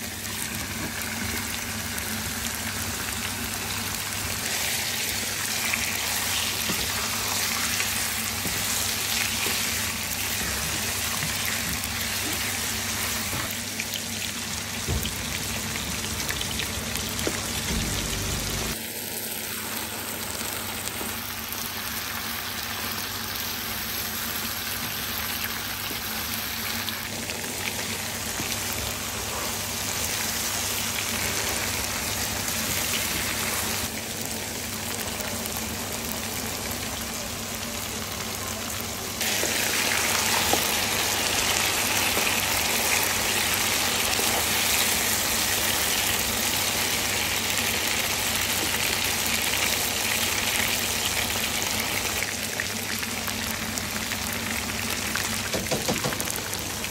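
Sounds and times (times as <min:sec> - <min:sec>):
chicken sizzling in hot oil: 0:00.0 - 0:56.9.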